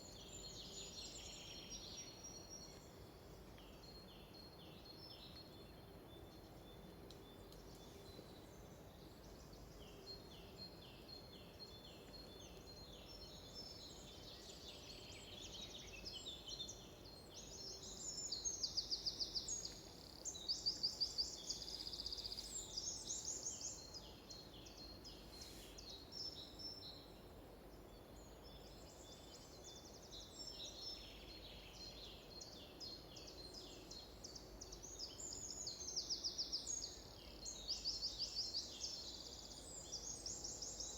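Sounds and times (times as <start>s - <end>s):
faint background noise: 0.0s - 40.9s
small birds singing: 0.0s - 40.9s.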